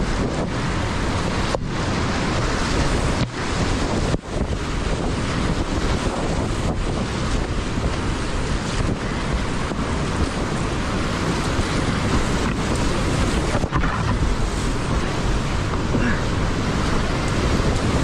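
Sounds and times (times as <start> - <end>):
whitewater rapids rushing: 0.0 - 18.0
wind buffeting microphone: 0.0 - 18.0.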